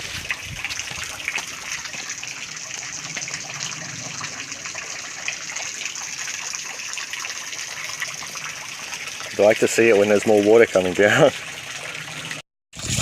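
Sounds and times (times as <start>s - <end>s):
small waterfall splashing: 0.0s - 13.0s.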